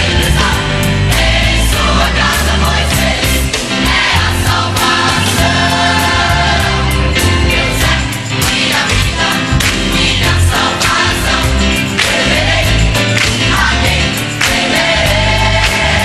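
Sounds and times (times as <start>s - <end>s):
drum kit tom and cymbal hits: 0.0s - 16.0s
gospel choir singing: 0.0s - 16.0s.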